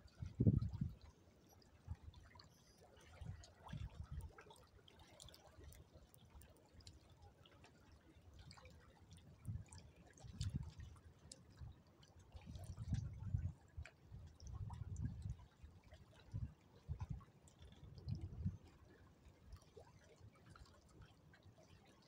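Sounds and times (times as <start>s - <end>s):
faint water lapping and dripping: 0.0s - 22.0s.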